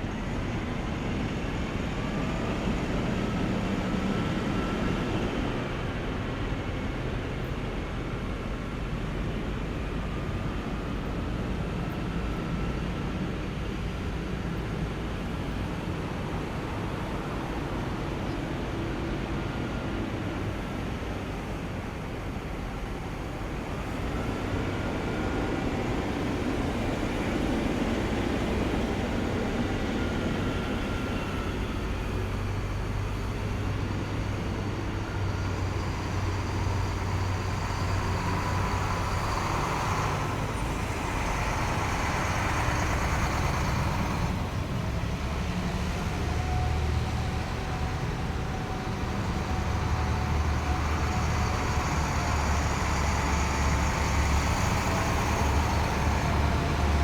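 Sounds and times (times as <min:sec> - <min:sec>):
deep engine drone: 0:00.0 - 0:57.0.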